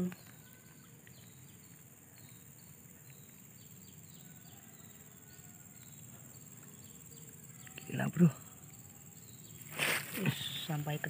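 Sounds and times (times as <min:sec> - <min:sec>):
insect chirps: 0:00.0 - 0:11.0.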